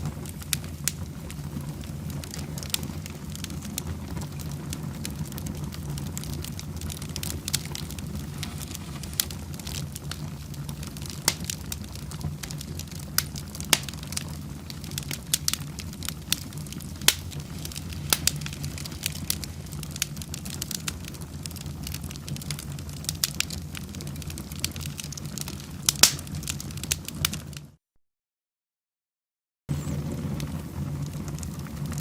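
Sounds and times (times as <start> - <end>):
wood fire crackling: 0.0 - 27.8, 29.7 - 32.0.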